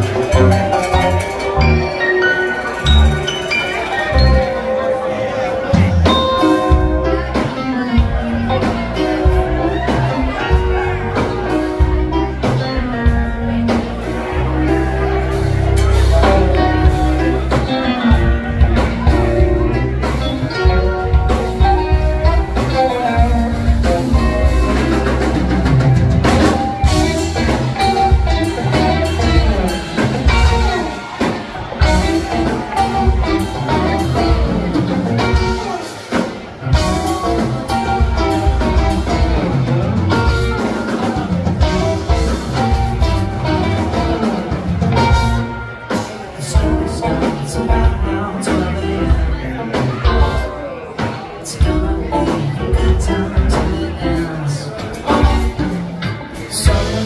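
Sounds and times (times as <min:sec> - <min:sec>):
drum kit: 0:00.0 - 0:57.0
electric guitars: 0:00.0 - 0:57.0
live band playing: 0:00.0 - 0:57.0.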